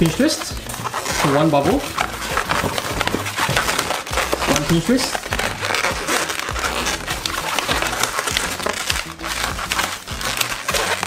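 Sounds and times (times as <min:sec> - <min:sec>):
balloons squeaking and rubbing: 0:00.0 - 0:11.0.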